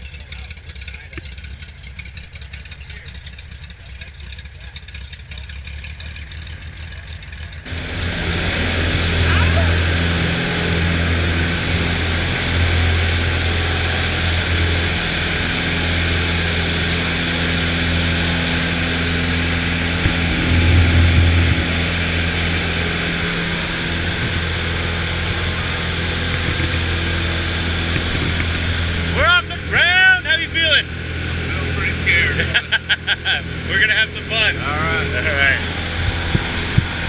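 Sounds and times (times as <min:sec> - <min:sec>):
propeller plane engine drone: 0:00.0 - 0:37.0.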